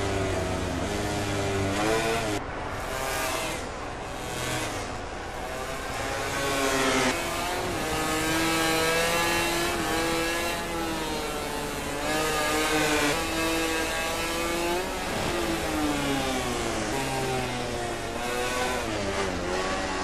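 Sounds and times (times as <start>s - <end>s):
racing motorcycle engines revving: 0.0s - 20.0s.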